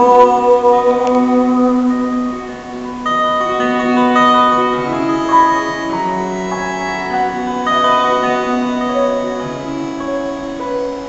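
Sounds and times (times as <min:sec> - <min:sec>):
harmonica melody: 0:00.0 - 0:11.0.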